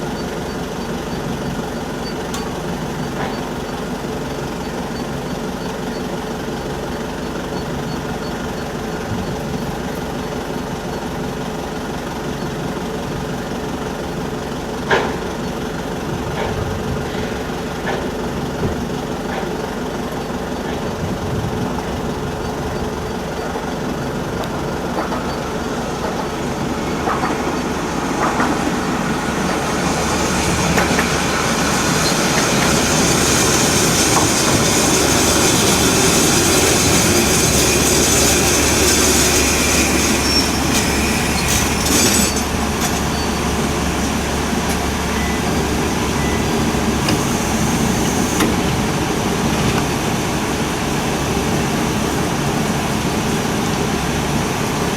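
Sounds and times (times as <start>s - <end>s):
diesel railcar engine humming: 0.0s - 54.9s
wheel and rail noise: 0.0s - 54.9s.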